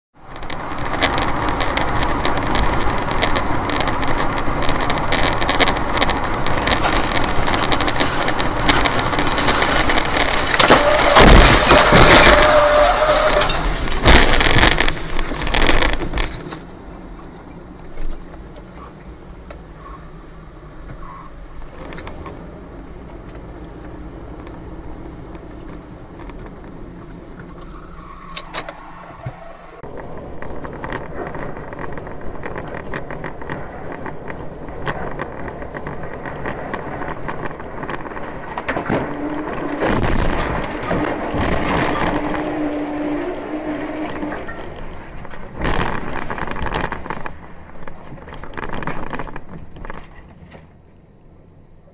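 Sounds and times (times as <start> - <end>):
car road and engine noise: 0.1 - 51.9.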